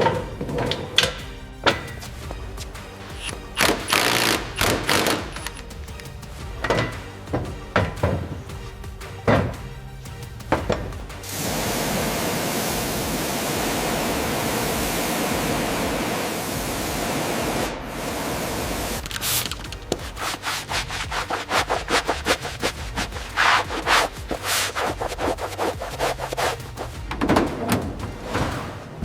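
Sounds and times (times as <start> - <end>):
abrasive rubbing on a surface: 1.6 - 29.0.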